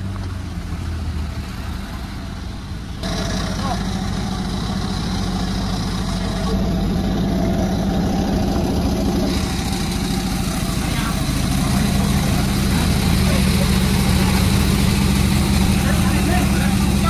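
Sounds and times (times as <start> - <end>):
chainsaw sawing a log: 3.0 - 17.0.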